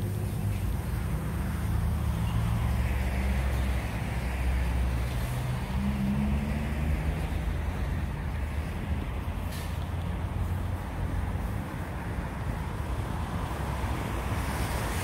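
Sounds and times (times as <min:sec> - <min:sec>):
tyre hiss of passing vehicle: 0:00.0 - 0:15.0
vehicle engines rumbling: 0:00.0 - 0:15.0.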